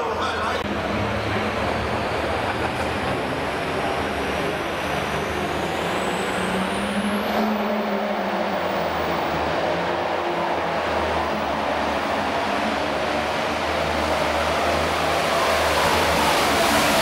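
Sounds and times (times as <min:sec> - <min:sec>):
loud diesel engine running: 0:00.0 - 0:17.0.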